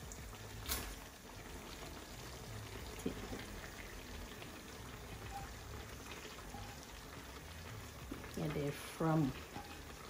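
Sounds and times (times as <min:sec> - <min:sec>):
stir-fry sizzling in a pan: 0:00.0 - 0:10.0.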